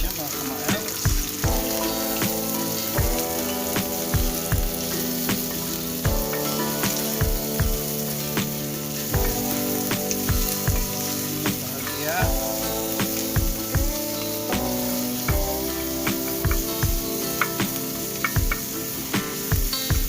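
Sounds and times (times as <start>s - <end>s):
background music with steady beat: 0.0s - 20.0s
garlic and onion sizzling in oil: 0.0s - 20.0s.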